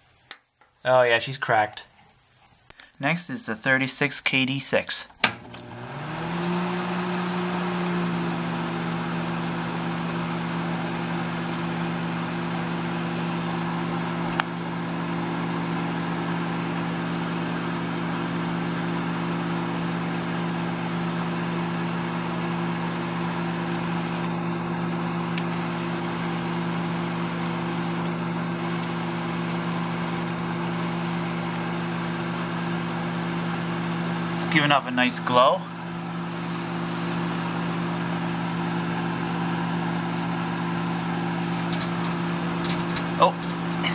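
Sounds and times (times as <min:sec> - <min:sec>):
microwave fan whirring: 0:04.4 - 0:43.9
microwave oven humming: 0:05.2 - 0:43.9.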